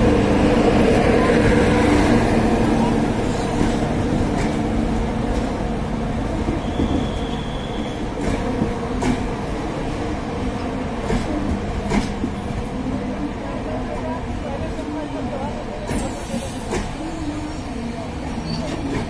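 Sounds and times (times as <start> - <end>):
train coaches rumbling past: 0.0 - 19.0.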